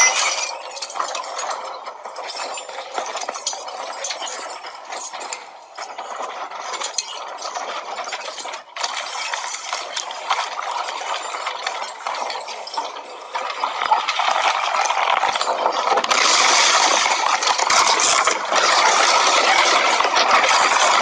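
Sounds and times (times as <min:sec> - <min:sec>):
heavy chains clanking and rattling: 0:00.0 - 0:21.0.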